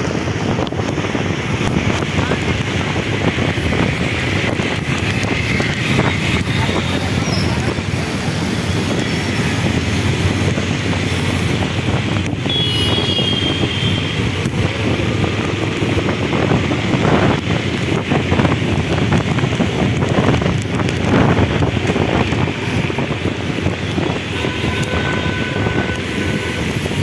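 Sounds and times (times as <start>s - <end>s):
tyres on wet road: 0.0s - 27.0s
wind buffeting microphone: 0.0s - 27.0s.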